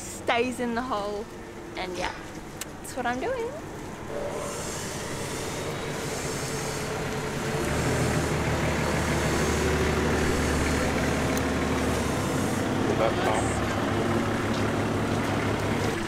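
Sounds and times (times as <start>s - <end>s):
heavy vehicle engine rumbling: 0.0s - 16.0s.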